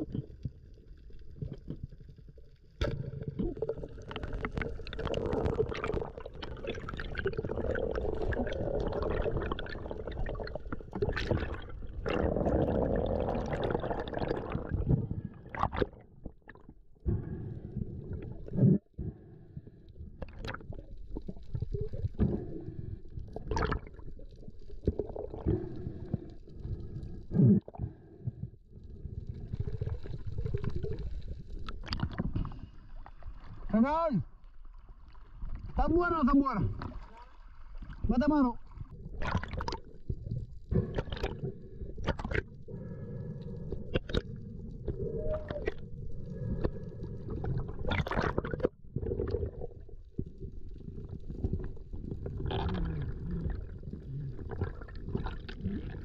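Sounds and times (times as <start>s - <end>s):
muffled rushing gurgling water: 0.0s - 56.0s.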